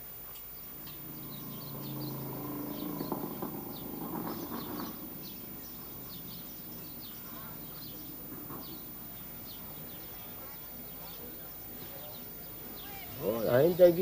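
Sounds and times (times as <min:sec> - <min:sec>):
small birds chirping: 0:00.0 - 0:14.0
low droning hum: 0:00.6 - 0:12.8.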